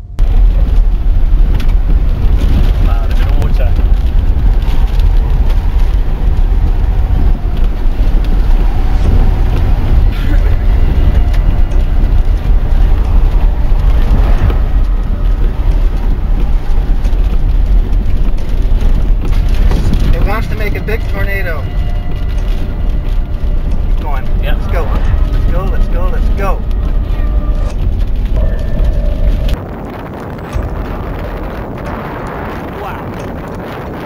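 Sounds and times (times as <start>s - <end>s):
tyres rumbling on gravel: 0.0s - 34.0s.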